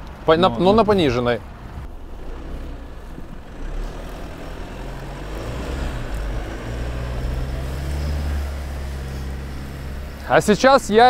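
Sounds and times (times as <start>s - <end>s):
suv engine pulling uphill: 1.0s - 11.0s.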